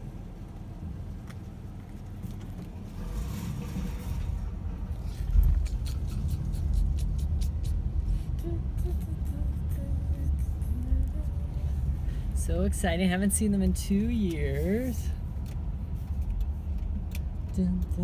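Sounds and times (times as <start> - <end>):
car rumble from inside cabin: 0.0 - 18.0.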